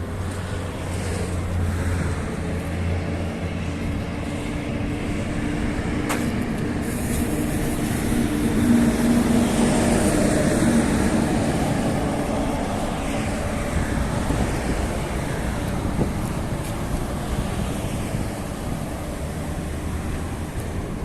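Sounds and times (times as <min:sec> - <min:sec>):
street noise: 0:00.0 - 0:21.0
vehicle engine passing: 0:00.4 - 0:21.0.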